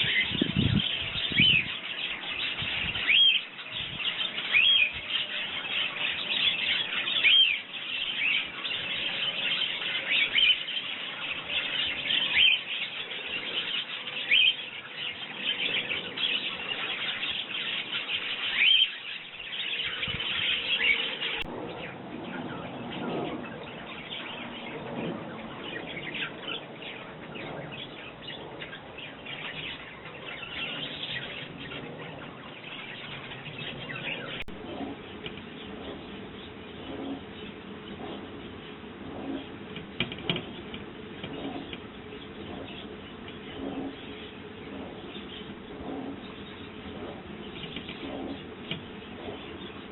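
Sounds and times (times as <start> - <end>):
sparrows chirping: 0.0 - 49.9.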